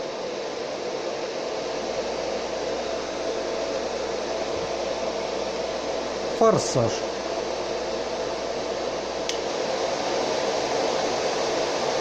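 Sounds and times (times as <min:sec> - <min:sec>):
blower fans rushing air: 0:00.0 - 0:12.0.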